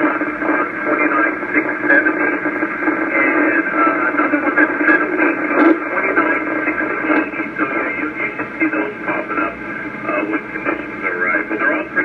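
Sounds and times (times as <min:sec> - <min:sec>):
noisy radio voice: 0:00.0 - 0:12.0.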